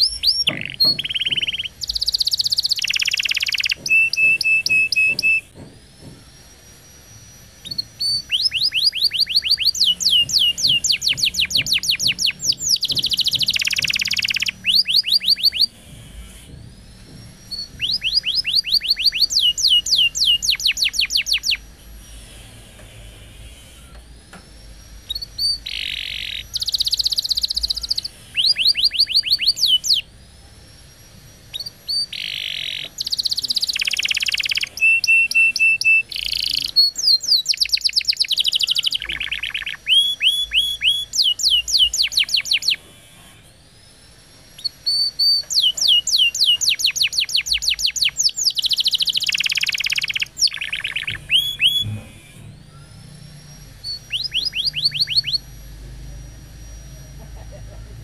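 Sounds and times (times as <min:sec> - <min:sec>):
canary singing trills: 0:00.0 - 0:24.0, 0:24.6 - 0:58.0.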